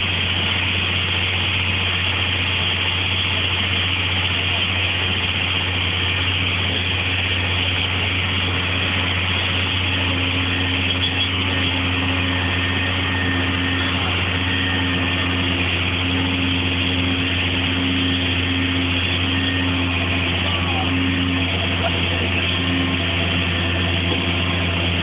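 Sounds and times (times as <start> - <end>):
heavy diesel engine droning: 0.0 - 25.0.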